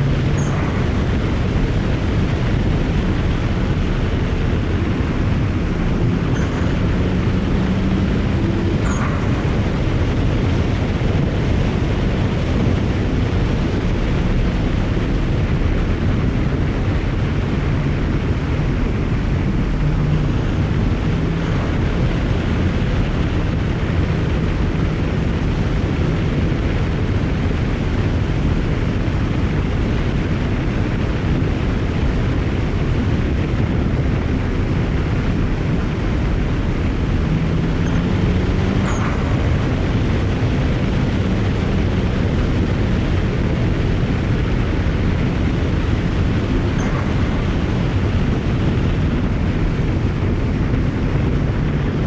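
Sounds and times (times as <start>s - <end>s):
car engine driving: 0.0s - 52.0s
road and wind noise: 0.0s - 52.0s.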